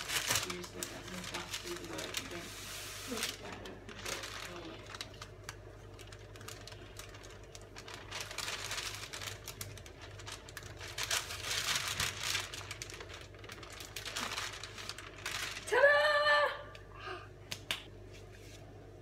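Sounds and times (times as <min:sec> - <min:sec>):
baking paper crinkling: 0:00.0 - 0:16.0.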